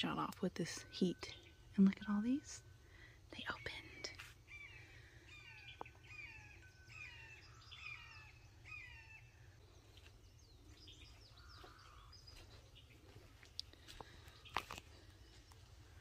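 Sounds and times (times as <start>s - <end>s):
faint birdsong chirps: 0.0s - 16.0s
low background hum: 0.0s - 16.0s.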